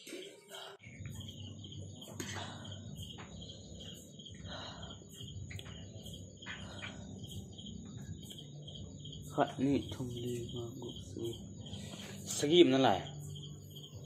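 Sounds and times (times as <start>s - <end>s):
insects trilling: 0.1s - 14.0s.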